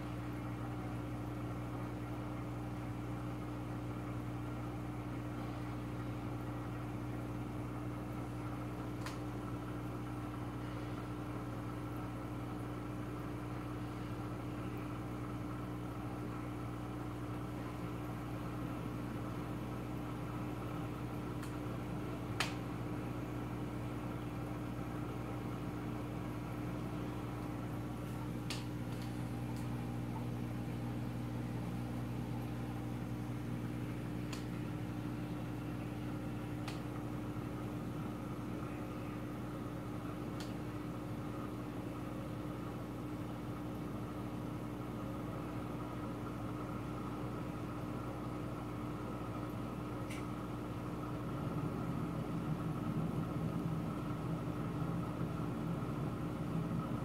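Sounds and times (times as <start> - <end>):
aquarium equipment humming: 0.0 - 57.0.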